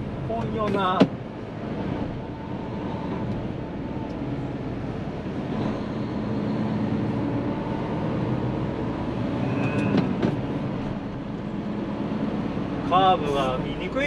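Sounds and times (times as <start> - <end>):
truck diesel engine under load: 0.0 - 14.0
tyre and road noise: 0.0 - 14.0.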